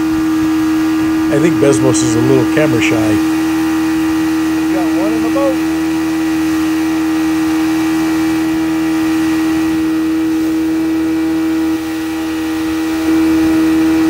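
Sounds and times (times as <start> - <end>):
outboard motor whine: 0.0 - 14.0.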